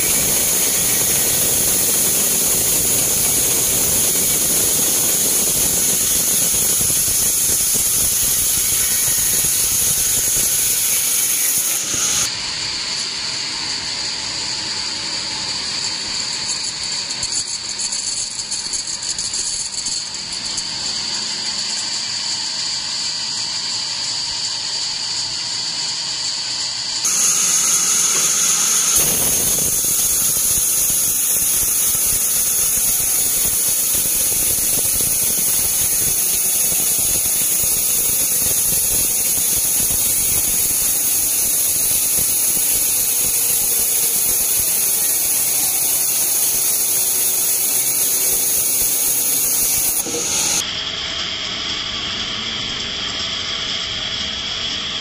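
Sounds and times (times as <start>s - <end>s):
band saw blade whining: 0.0s - 50.7s.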